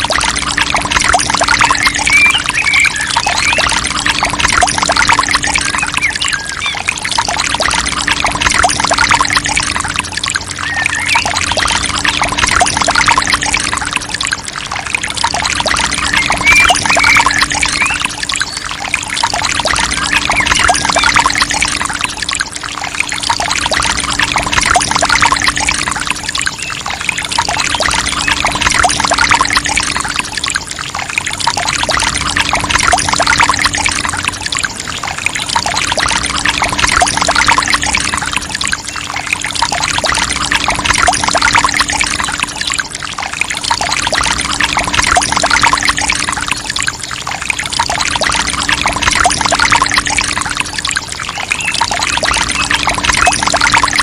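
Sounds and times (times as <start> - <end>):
low pump hum: 0.0 - 54.0
water pouring and splashing: 0.0 - 54.0.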